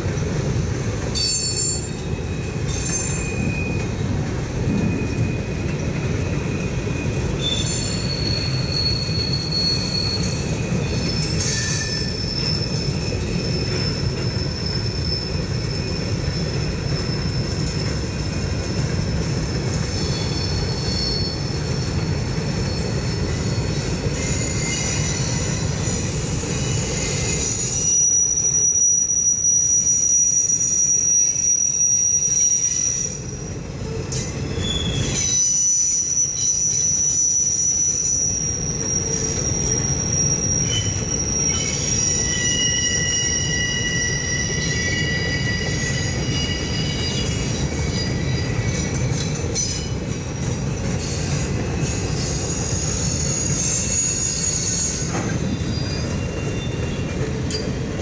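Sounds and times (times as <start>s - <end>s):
freight train rumbling past: 0.0s - 58.0s
train wheels squealing: 0.0s - 58.0s.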